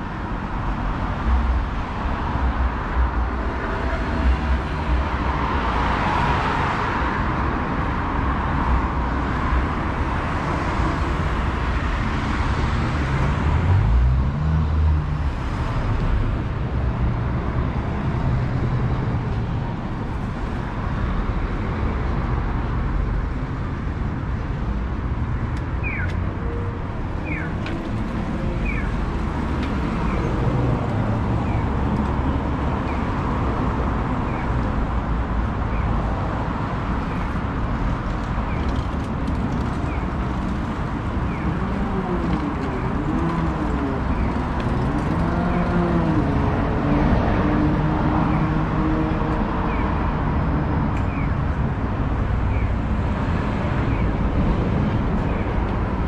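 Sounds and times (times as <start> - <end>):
passing cars and trucks: 0.0 - 56.0.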